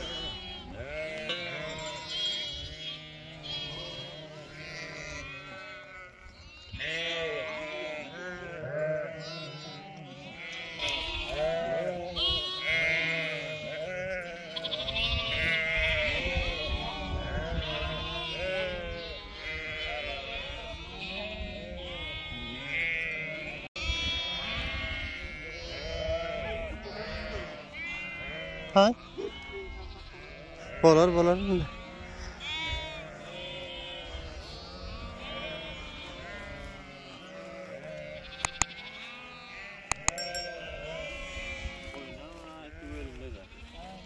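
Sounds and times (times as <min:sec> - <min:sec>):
sheep bleating: 0:00.0 - 0:44.0.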